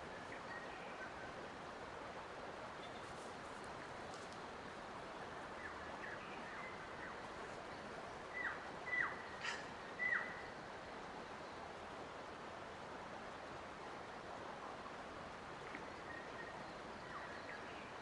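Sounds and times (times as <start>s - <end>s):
outdoor ambience hiss: 0.0s - 18.0s.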